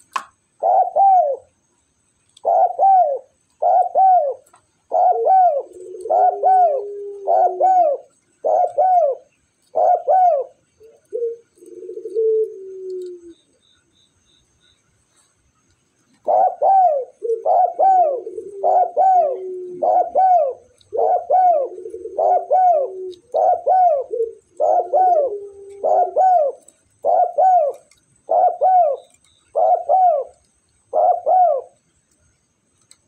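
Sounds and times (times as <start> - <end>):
dove cooing: 0.5 - 1.6, 2.4 - 13.6, 16.1 - 31.8.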